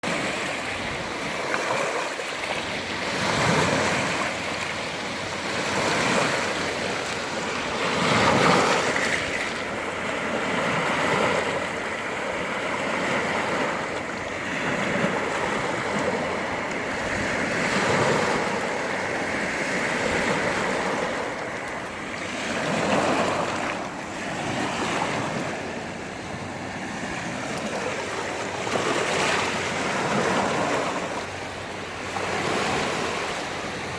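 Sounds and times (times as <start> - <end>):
sea waves breaking on shore: 0.0 - 33.9
wind blowing: 0.0 - 33.9.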